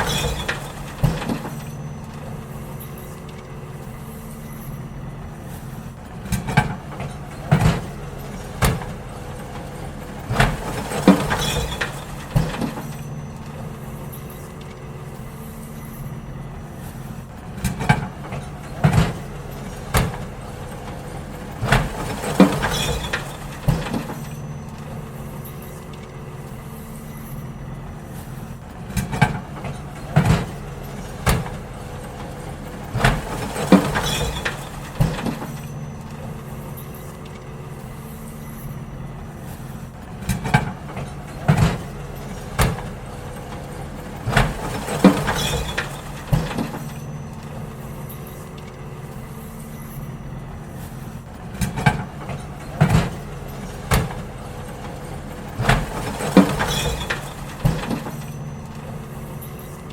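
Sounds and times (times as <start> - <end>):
bins clanking and banging: 0.0 - 59.9
garbage truck running: 0.0 - 59.9.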